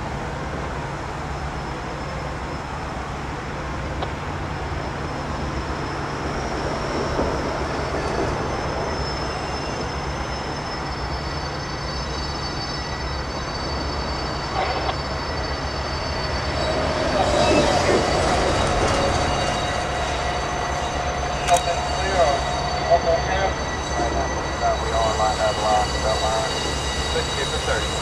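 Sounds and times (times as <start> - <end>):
diesel locomotive engine drone: 0.0 - 28.0
train rolling rumble: 0.0 - 28.0
wheels squealing on curve: 4.6 - 28.0.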